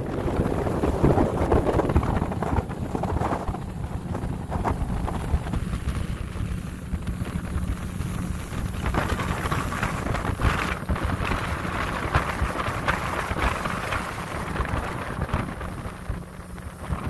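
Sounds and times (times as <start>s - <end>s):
boat engine rumbling: 0.0s - 17.0s
water rushing: 0.0s - 17.0s
wind buffeting microphone: 0.0s - 17.0s.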